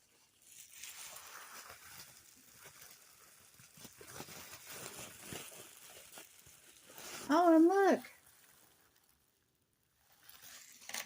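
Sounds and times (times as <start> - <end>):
plastic wrap rustling and crinkling: 0.0 - 11.0.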